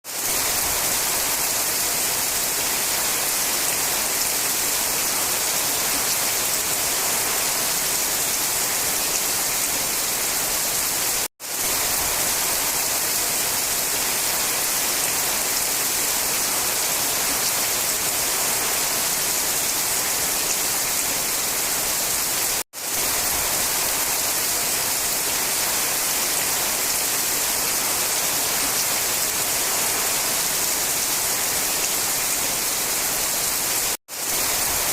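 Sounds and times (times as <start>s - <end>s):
rain falling on forest: 0.0s - 34.9s.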